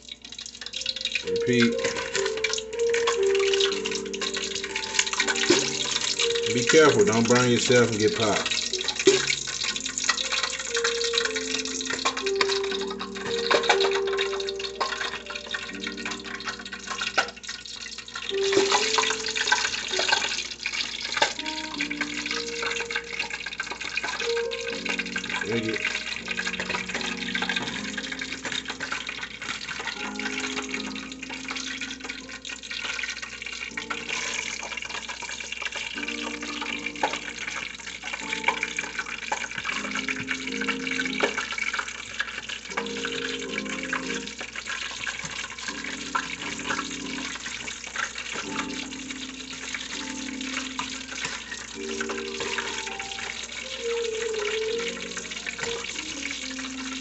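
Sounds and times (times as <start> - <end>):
food frying in hot oil: 0.0 - 57.0
background music with held notes: 0.8 - 17.4, 18.2 - 20.6, 21.3 - 32.9, 33.7 - 34.8, 35.9 - 41.6, 42.7 - 44.6, 45.6 - 47.5, 48.3 - 57.0.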